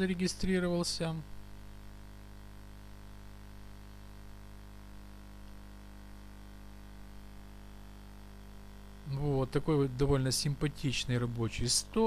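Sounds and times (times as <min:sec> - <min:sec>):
electrical mains hum: 0:00.0 - 0:12.0
low hiss: 0:00.0 - 0:12.0.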